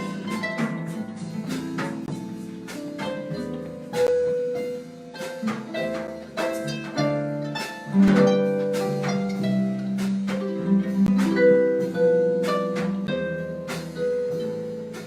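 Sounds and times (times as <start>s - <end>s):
accompanying instrument: 0.0s - 15.0s
plucked harp notes: 0.0s - 15.0s.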